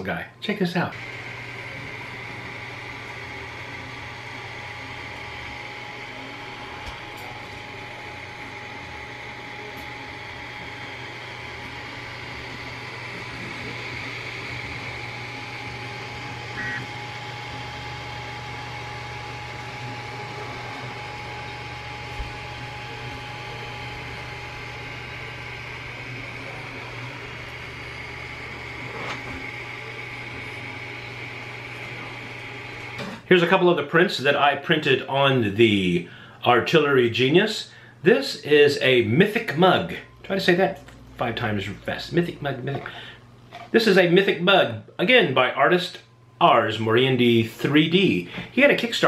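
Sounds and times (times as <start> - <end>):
printer fans and motors whirring: 0.0 - 49.0.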